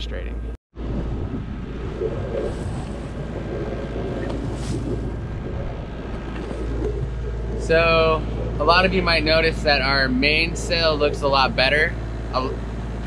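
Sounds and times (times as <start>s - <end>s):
boat engine running: 0.0s - 13.0s
wind buffeting microphone: 0.8s - 13.0s.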